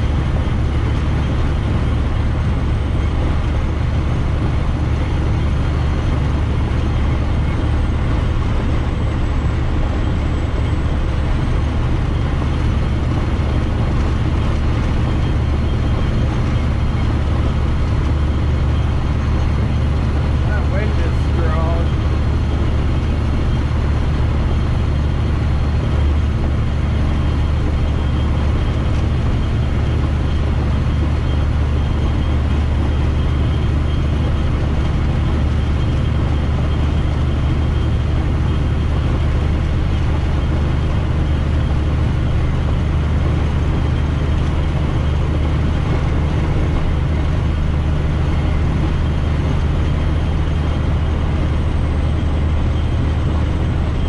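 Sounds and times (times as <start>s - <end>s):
diesel truck engine drone: 0.0s - 54.0s
road and cab noise: 0.0s - 54.0s.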